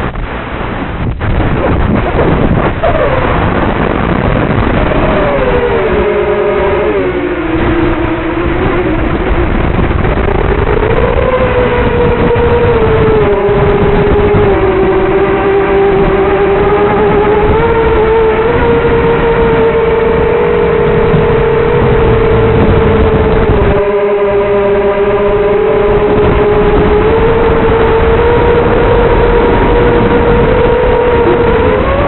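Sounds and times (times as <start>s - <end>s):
drone motors buzzing whine: 0.0s - 32.0s.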